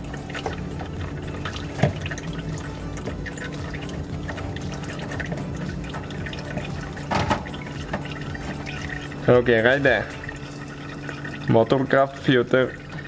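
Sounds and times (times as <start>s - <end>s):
oil dripping and trickling: 0.0s - 13.0s
steady low hum: 0.0s - 13.0s.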